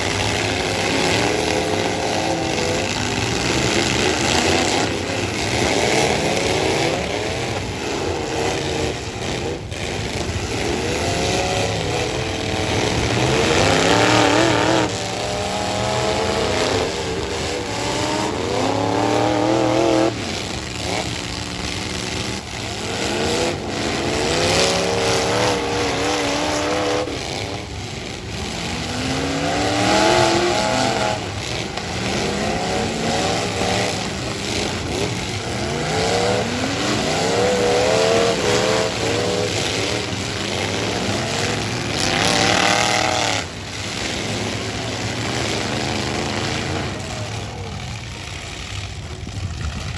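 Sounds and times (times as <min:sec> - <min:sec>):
pickup truck engines revving: 0:00.0 - 0:49.9.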